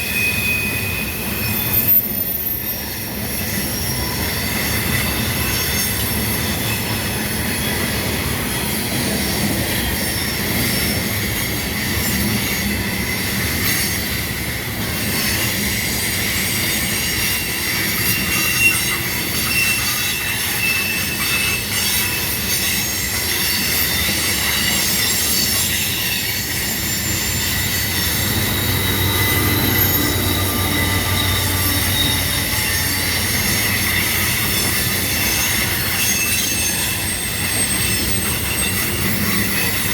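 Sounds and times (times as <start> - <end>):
rumble and clack of rails: 0.0 - 39.9
train wheels squealing: 0.0 - 39.9.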